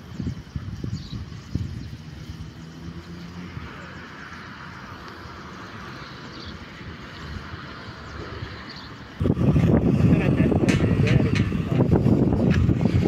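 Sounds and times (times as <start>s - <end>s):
outdoor background haze: 0.0s - 13.0s
vehicle engine humming: 0.0s - 13.0s.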